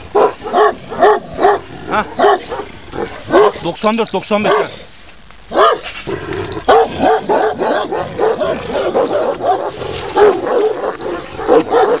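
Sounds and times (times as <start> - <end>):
dogs barking and yelping: 0.0 - 3.7, 5.5 - 12.0.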